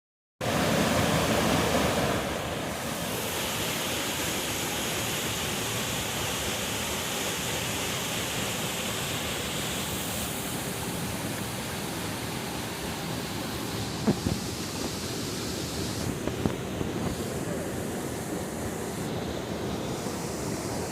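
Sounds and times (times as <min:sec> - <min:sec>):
waterfall rushing: 0:00.4 - 0:20.9.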